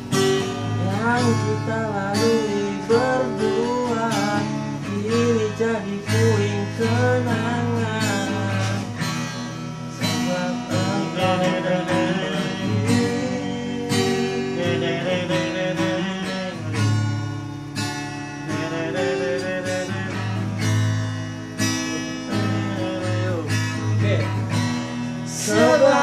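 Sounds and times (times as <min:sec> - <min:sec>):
acoustic guitar strumming: 0:00.0 - 0:26.0
man singing: 0:00.8 - 0:09.2, 0:09.9 - 0:17.2, 0:18.4 - 0:20.6, 0:22.0 - 0:24.5, 0:25.2 - 0:26.0.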